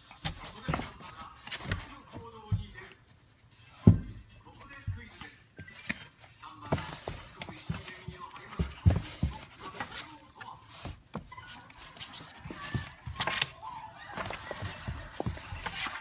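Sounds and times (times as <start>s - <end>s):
cardboard rustling: 0.0s - 16.0s
puppy thumping on cardboard: 0.1s - 3.0s, 3.8s - 16.0s.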